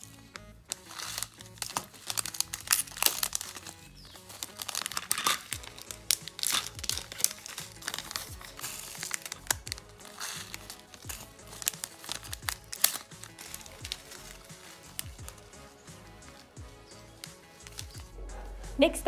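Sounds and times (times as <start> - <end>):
plastic bag crinkling: 0.0 - 18.1
background music: 0.0 - 19.0.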